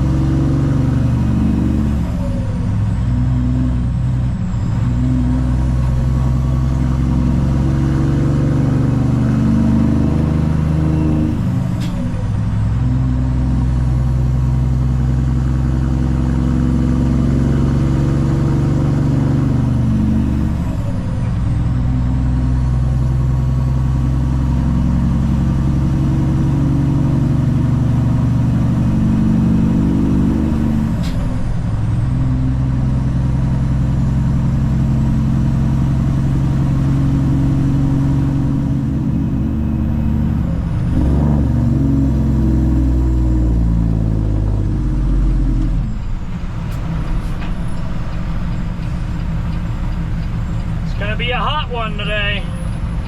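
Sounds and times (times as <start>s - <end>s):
diesel truck engine pulling: 0.0s - 53.0s.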